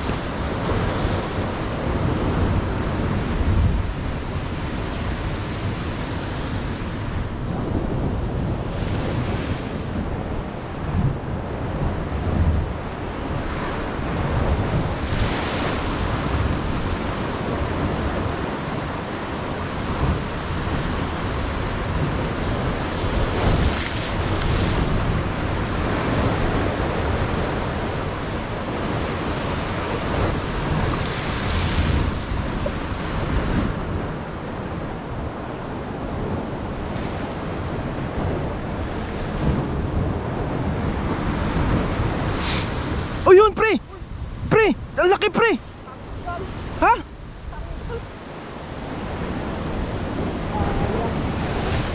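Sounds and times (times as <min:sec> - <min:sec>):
sea surf breaking on rocks: 0:00.0 - 0:51.9
wind buffeting microphone: 0:00.0 - 0:51.9.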